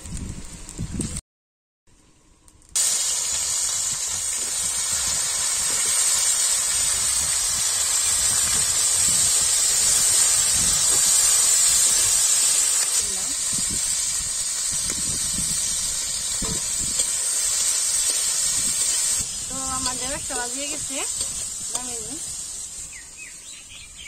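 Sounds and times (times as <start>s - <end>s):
okra sizzling in hot oil: 2.5s - 24.0s.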